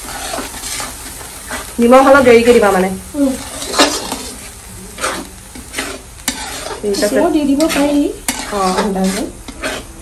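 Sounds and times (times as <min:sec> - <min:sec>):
paste sizzling in hot oil: 0:00.0 - 0:10.0
spatula scraping a pan: 0:00.0 - 0:10.0.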